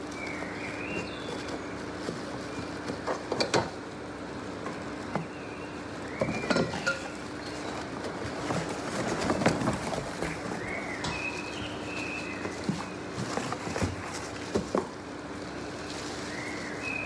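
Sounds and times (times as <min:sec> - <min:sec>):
cardboard and plastic rustling: 0:00.0 - 0:17.0.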